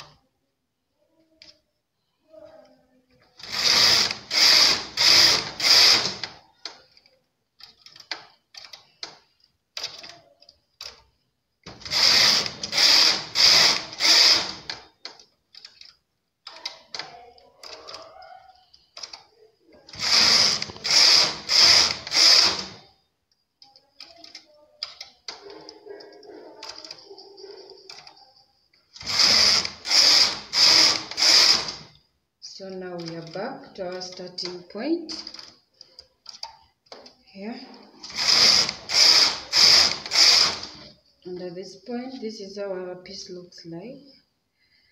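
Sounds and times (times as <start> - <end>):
knitting machine carriage rattling: 3.1 - 22.9, 23.6 - 41.4.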